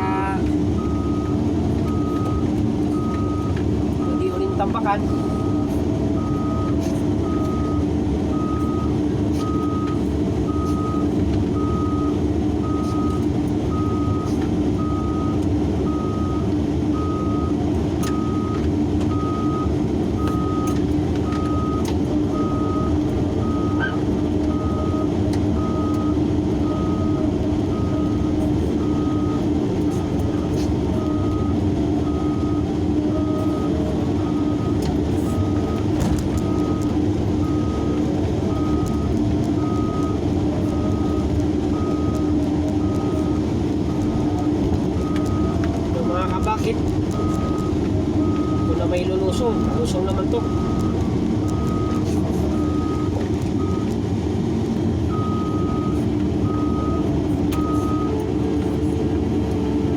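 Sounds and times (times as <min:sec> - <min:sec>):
warning alarm beeping: 0:00.0 - 0:54.0
diesel engine under load: 0:00.0 - 0:59.9.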